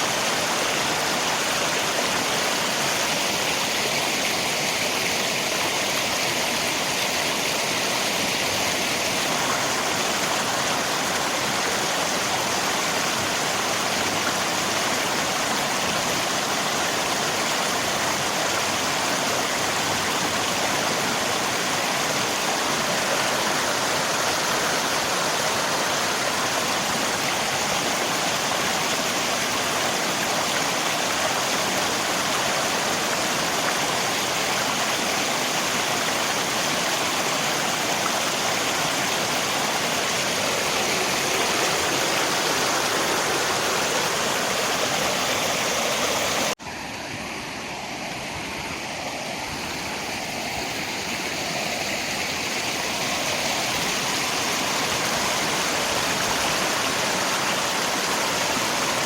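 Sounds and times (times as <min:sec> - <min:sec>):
rain: 0:00.0 - 0:59.0
river water flowing: 0:00.0 - 0:59.0.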